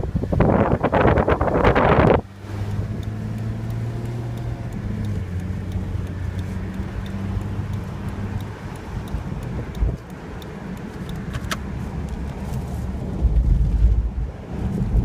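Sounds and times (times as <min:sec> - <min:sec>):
car engine hum inside cabin: 0:00.0 - 0:15.0.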